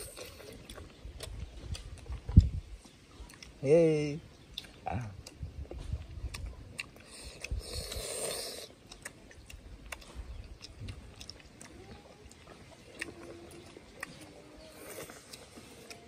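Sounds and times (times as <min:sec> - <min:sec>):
people chewing and lip smacking: 0:00.0 - 0:16.0.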